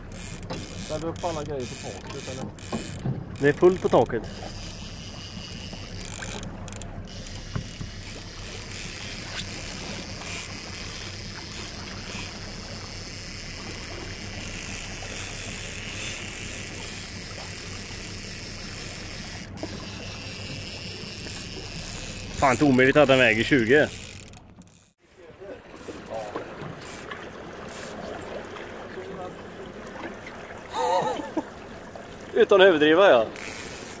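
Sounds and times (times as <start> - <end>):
water wash: 0.0 - 24.5, 25.2 - 34.0
outboard motor humming: 0.0 - 34.0.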